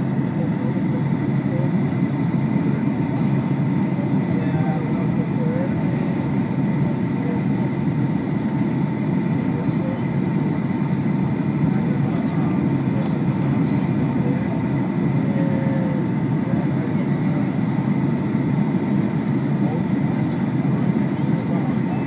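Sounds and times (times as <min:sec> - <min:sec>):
airplane cabin roar: 0:00.0 - 0:22.0.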